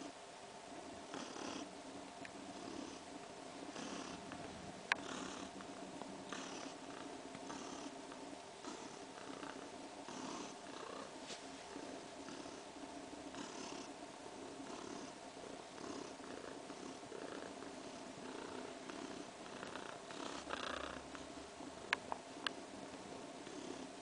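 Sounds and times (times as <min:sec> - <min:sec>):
cat purring: 0:01.0 - 0:01.7, 0:02.4 - 0:24.0.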